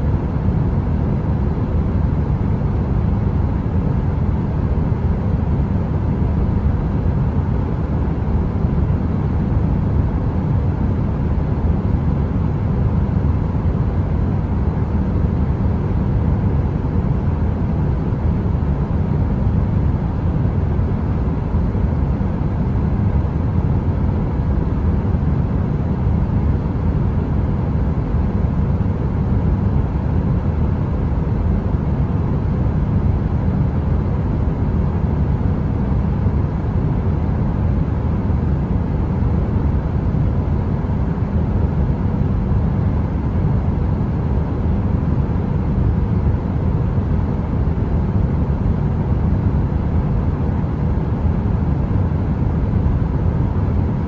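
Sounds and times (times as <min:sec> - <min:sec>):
faint steady hum: 0:00.0 - 0:54.0
heater fan rumbling: 0:00.0 - 0:54.0.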